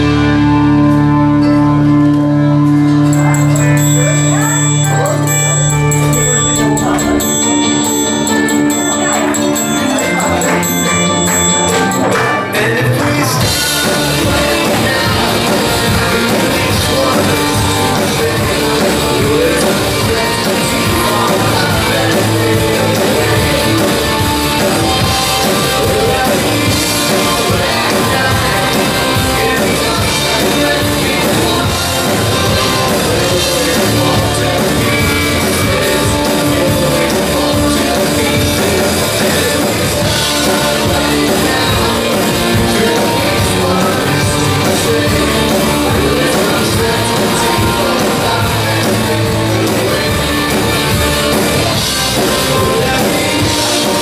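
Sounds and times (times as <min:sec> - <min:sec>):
lead voice singing: 0:00.0 - 0:54.0
rock band playing live: 0:00.0 - 0:54.0.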